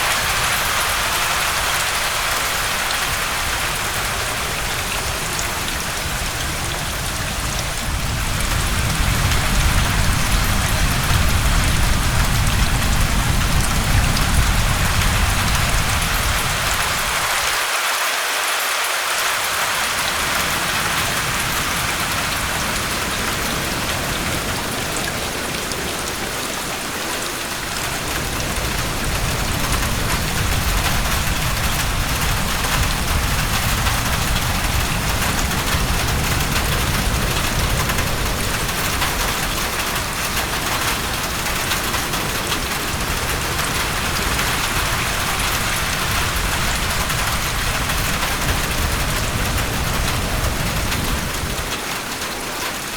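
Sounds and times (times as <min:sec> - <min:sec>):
low rumble of wind: 0:00.0 - 0:17.6, 0:19.8 - 0:52.9
heavy rain on a roof: 0:00.0 - 0:52.9.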